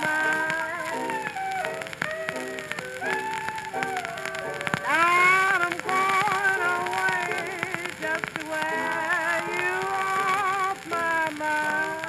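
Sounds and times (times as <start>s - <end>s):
record surface hiss: 0.0s - 12.0s
woman singing blues: 0.0s - 12.0s.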